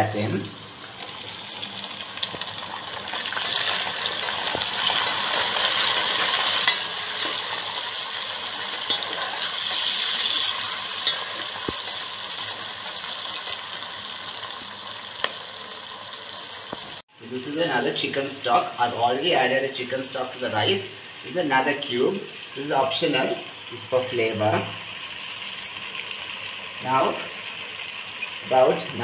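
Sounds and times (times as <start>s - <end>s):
vegetables sizzling in oil: 0.0s - 17.1s, 20.3s - 29.0s.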